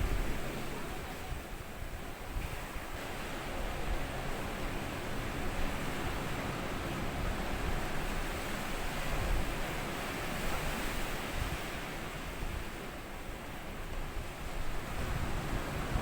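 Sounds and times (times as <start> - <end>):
sea waves washing on sandy beach: 0.0 - 16.0.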